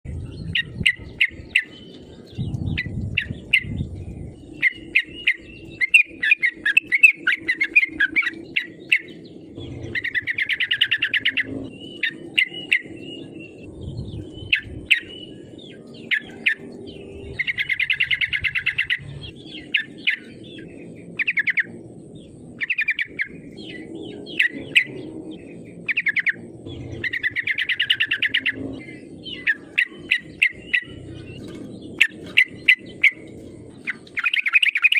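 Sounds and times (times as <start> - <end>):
bird chirping and trilling: 0.0 - 34.9
low background rumble: 0.0 - 34.9.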